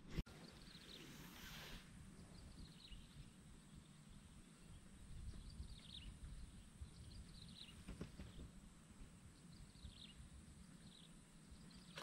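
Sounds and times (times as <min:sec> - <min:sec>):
bird chirping: 0:00.2 - 0:12.0.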